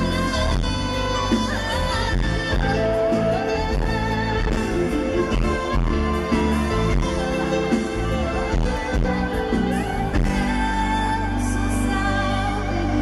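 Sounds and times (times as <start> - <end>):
amplified pop band: 0.0 - 13.0
woman singing: 0.0 - 13.0.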